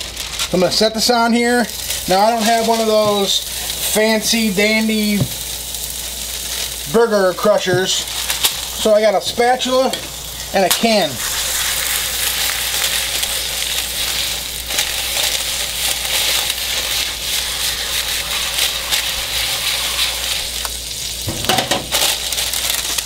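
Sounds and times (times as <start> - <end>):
burger patty sizzling on griddle: 0.0 - 23.0.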